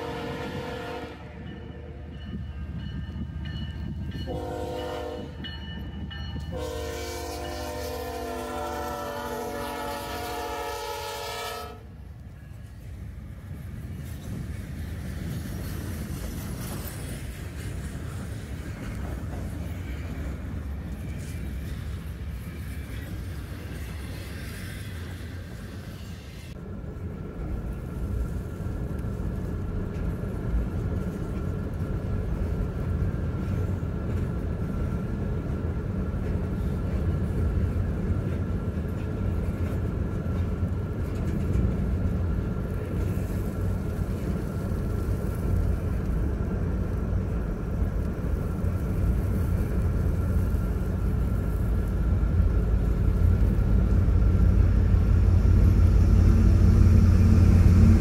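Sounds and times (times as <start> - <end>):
diesel locomotive: 0.0 - 58.0
train wheels rumbling on rails: 0.0 - 58.0.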